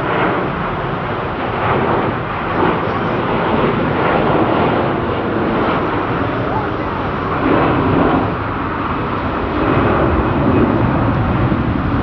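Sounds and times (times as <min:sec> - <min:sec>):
jet engines roaring at takeoff: 0:00.0 - 0:12.0.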